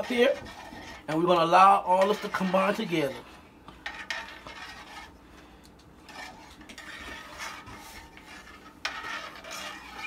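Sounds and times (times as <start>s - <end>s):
utensil scraping a skillet: 0.0s - 10.0s.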